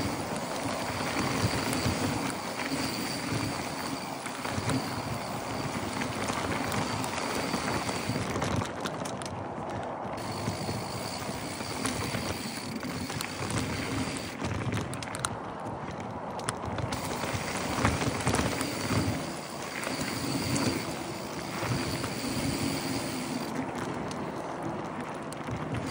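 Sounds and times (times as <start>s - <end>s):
bike rattling: 0.0s - 25.9s
bike tyres on dirt and stones: 0.0s - 25.9s.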